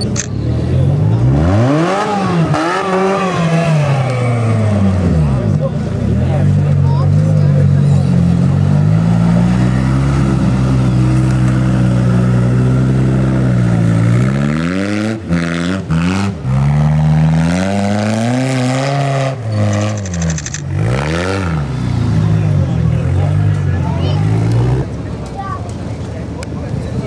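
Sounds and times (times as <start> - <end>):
buggy engine revving: 0.0 - 25.8.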